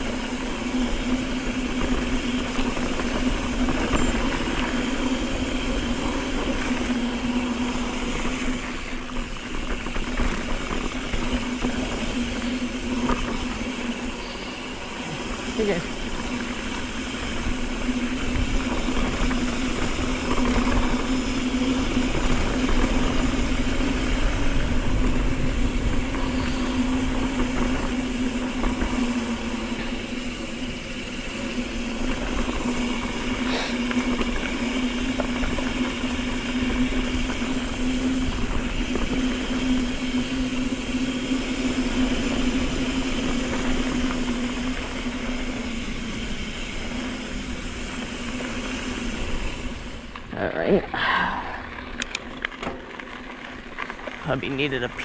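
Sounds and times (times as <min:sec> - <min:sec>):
wind rumble on microphone: 0:00.0 - 0:54.6
bike rolling on dirt road: 0:00.0 - 0:55.0.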